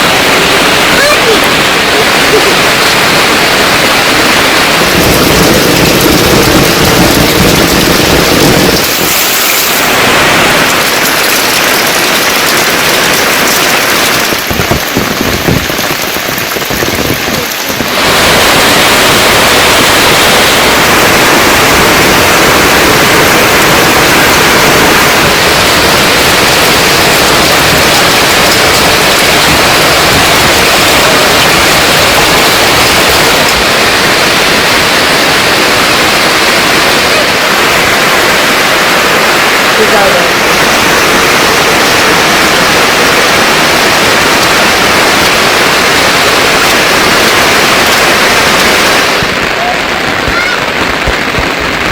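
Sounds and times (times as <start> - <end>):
heavy rain falling: 0.0 - 51.9.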